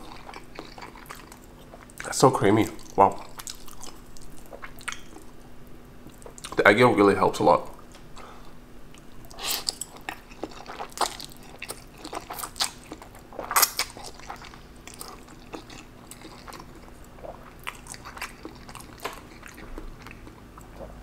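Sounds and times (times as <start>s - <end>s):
chewing: 0.0s - 5.4s, 6.0s - 6.6s, 8.9s - 21.0s.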